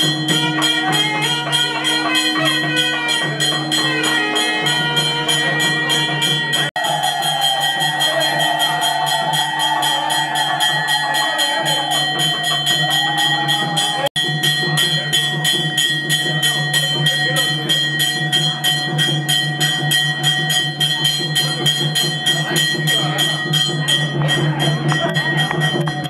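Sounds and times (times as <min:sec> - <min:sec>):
fast even beat: 0:00.0 - 0:26.0.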